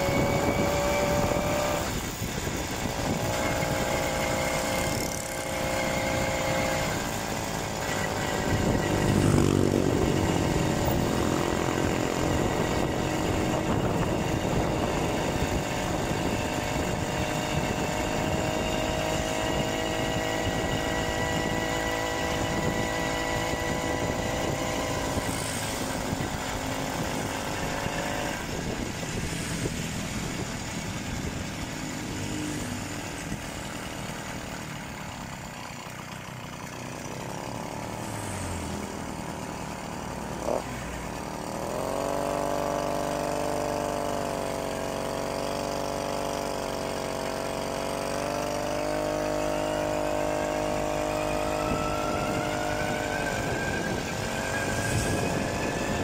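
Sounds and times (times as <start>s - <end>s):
two-stroke bicycle engine running: 0.0s - 56.0s.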